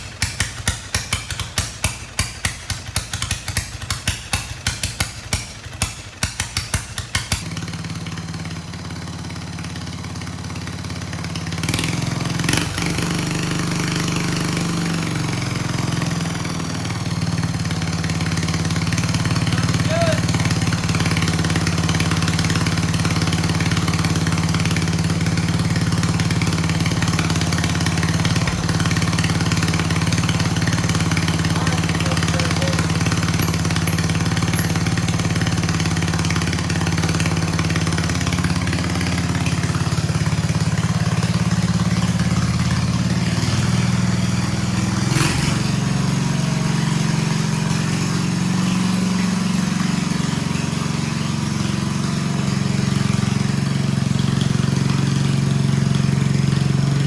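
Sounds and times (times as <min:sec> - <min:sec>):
lawnmower engine running: 0:00.0 - 0:57.0.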